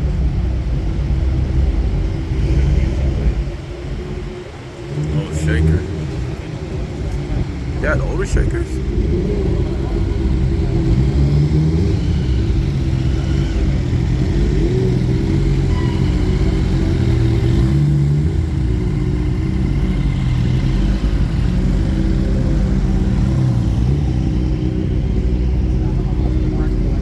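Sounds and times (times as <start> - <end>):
car engine running: 0.2 - 27.0.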